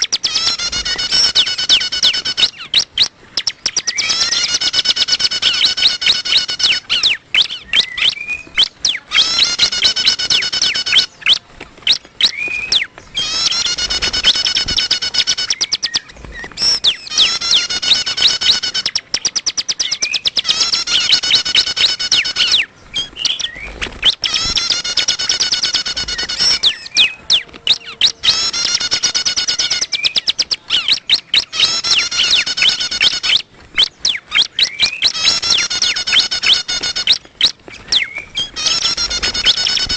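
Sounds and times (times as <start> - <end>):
recorded bird calls: 0.0 - 39.9.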